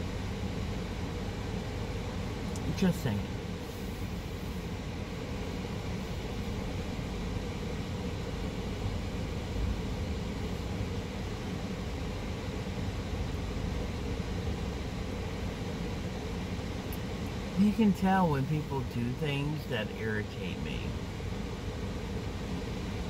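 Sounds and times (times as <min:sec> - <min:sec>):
car engine hum from inside: 0:00.0 - 0:23.0.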